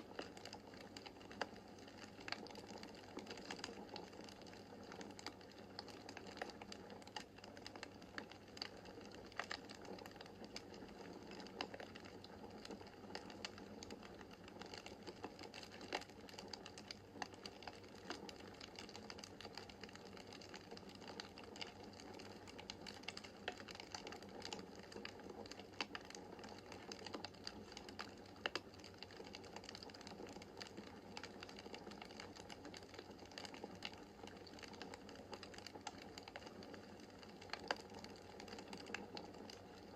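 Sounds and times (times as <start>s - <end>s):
soft hum of flames: 0.0s - 39.9s
wood fire crackling: 0.0s - 39.9s.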